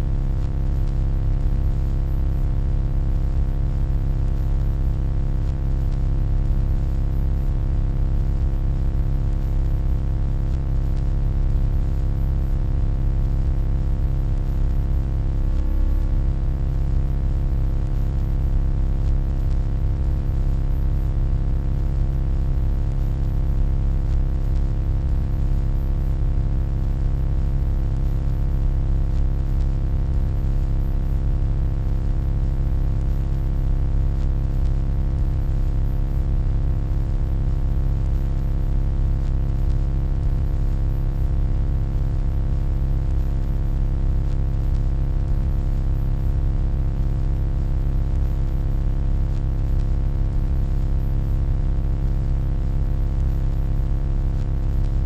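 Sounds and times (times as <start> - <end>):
low electronic hum: 0.0 - 45.7, 48.2 - 48.6, 49.3 - 51.7, 54.3 - 55.0.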